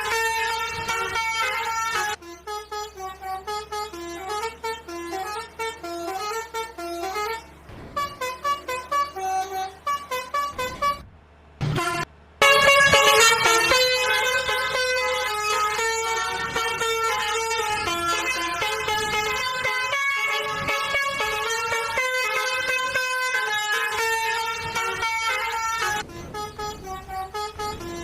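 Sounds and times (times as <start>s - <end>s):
bus musical horn tune: 0.0s - 28.0s.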